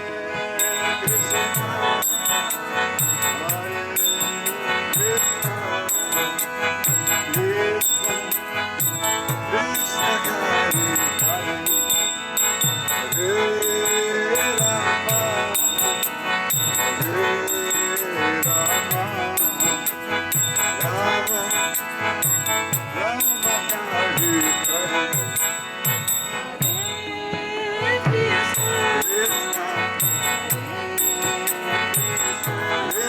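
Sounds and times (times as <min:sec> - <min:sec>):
sustained melodic tones: 0:00.0 - 0:33.0.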